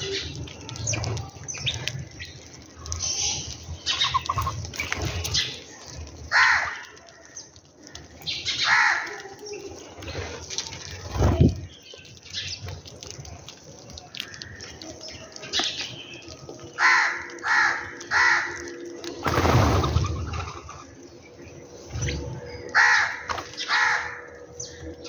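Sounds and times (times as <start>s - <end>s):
harsh bird calls: 0.0s - 13.0s, 13.8s - 25.0s
sparrows chirping: 0.0s - 25.0s.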